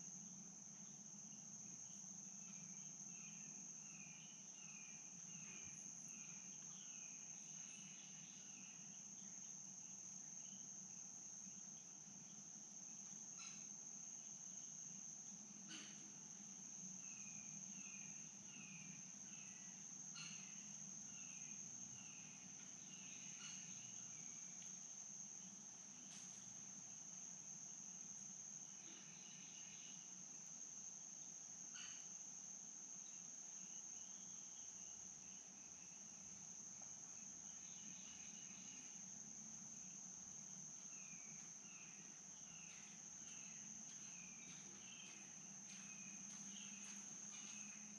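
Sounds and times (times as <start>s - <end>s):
high-pitched insect drone: 0.0s - 47.9s.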